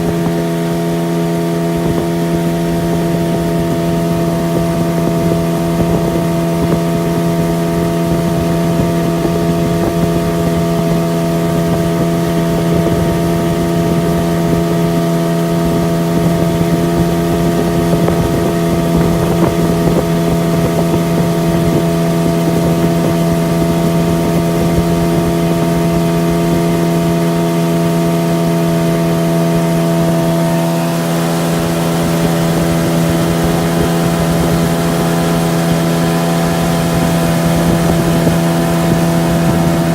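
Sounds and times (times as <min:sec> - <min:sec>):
outboard motor running: 0:00.0 - 0:39.9
wind buffeting microphone: 0:00.0 - 0:39.9.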